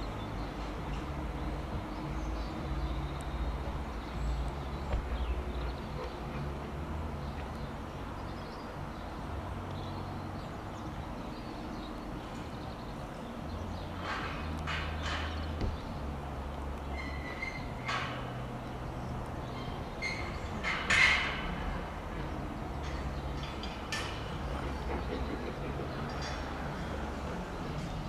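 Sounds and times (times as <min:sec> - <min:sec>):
diesel train engine humming: 0:00.0 - 0:20.6, 0:21.2 - 0:28.0.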